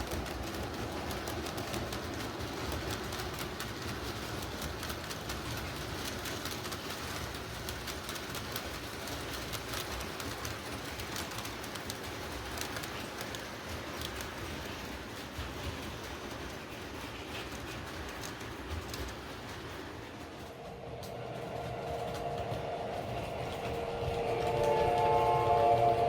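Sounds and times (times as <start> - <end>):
model train rumble: 0.0 - 26.0
wheels clicking over rails: 0.0 - 26.0.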